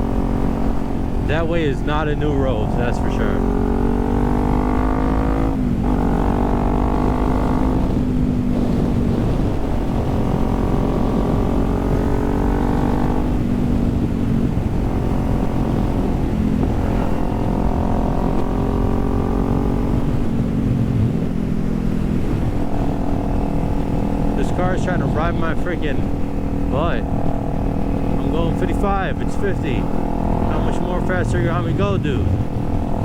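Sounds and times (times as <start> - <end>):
motorcycle engine revving: 0.0 - 33.0
wind noise on microphone: 0.0 - 33.0.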